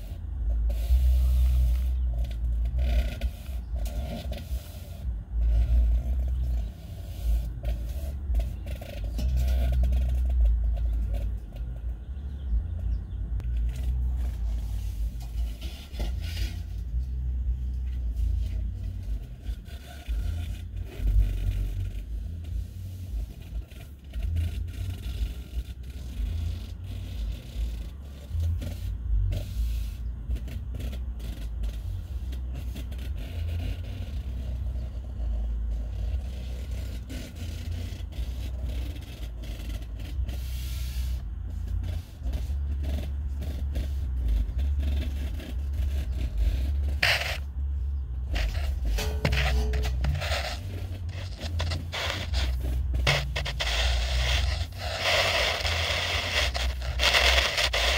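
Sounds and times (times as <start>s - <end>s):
camera scraping flue walls: 0.0s - 57.9s
low rumble: 0.0s - 57.9s.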